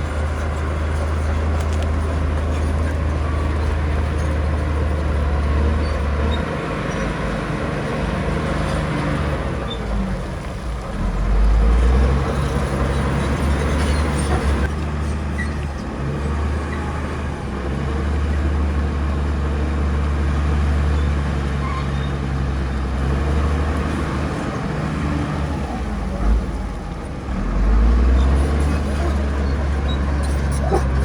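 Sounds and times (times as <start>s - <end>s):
heavy diesel machinery engine drone: 0.0s - 31.0s.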